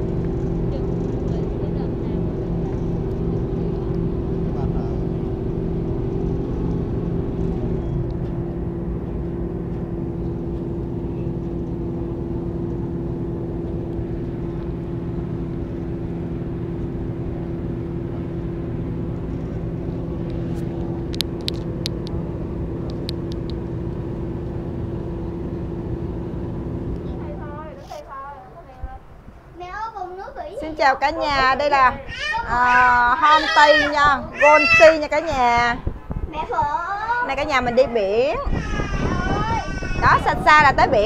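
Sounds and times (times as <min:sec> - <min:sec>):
ferry engine droning: 0:00.0 - 0:41.0.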